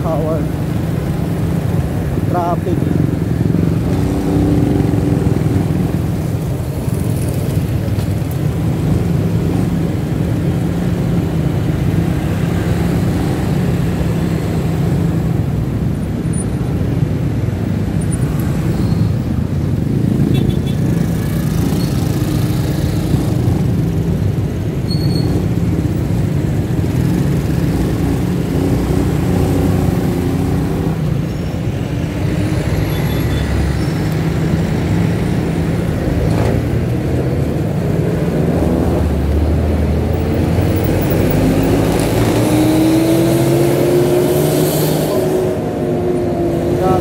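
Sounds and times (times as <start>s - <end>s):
rumble of buses and cars: 0.0s - 47.0s.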